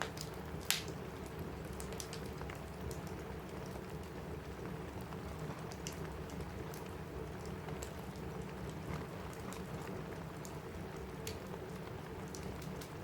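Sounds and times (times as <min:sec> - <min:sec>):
rain on a roof: 0:00.0 - 0:13.0
sharp ticks of raindrops: 0:00.0 - 0:13.0.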